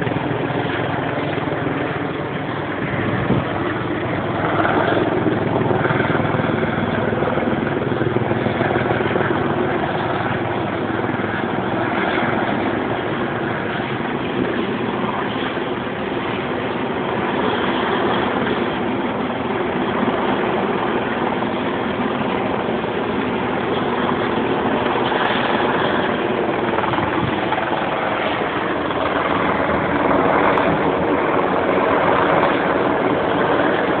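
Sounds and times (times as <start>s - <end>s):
helicopter flying overhead: 0.0s - 34.0s.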